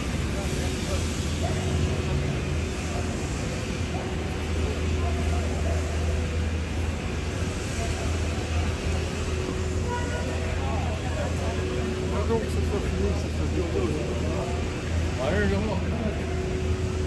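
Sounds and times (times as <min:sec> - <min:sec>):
low rumble of traffic: 0:00.0 - 0:17.0
pedestrian voices: 0:00.0 - 0:17.0.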